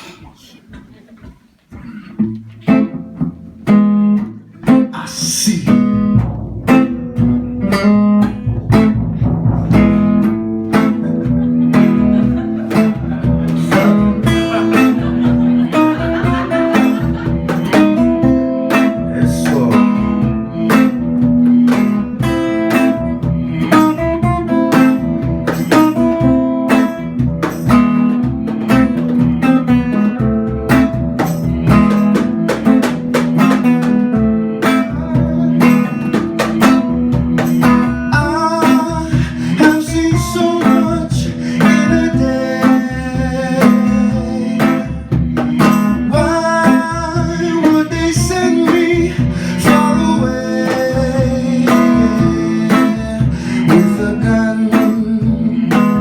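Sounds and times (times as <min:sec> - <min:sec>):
acoustic guitar strumming: 0:01.7 - 0:56.0
steady drum beat: 0:02.7 - 0:56.0.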